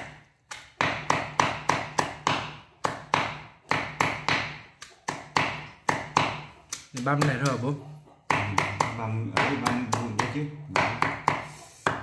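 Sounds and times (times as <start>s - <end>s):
cleaver chopping on wooden board: 0.0s - 12.0s.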